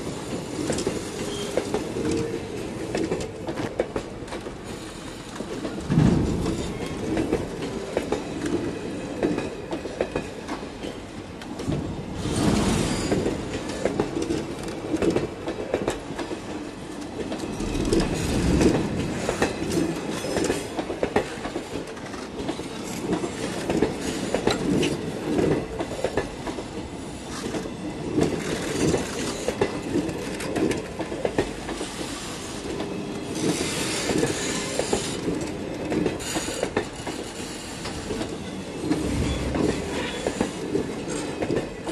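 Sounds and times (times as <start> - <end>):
train wheels clickety-clack: 0.0 - 41.9.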